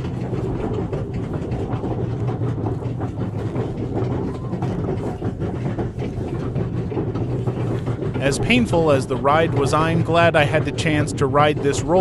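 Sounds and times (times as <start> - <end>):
roller coaster rattling on track: 0.0 - 12.0.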